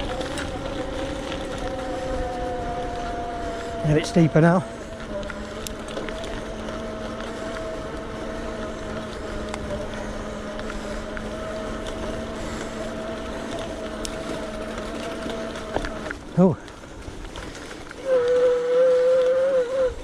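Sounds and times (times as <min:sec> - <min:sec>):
electric bike motor whining: 0:00.0 - 0:20.0.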